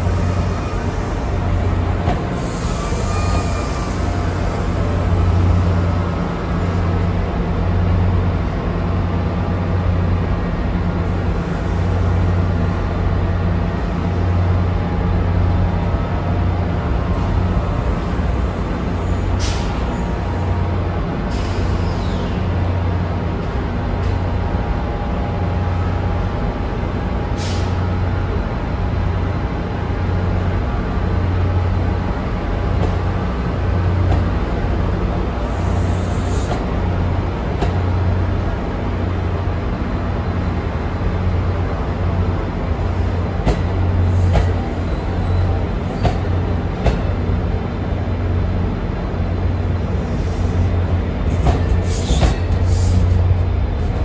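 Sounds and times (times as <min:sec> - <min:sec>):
train coaches rolling past: 0:00.0 - 0:54.0.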